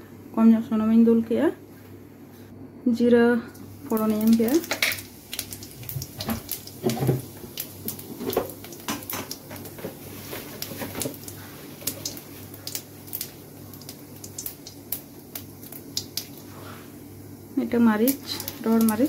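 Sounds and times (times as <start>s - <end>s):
seeds crackling in hot oil: 3.5s - 19.0s.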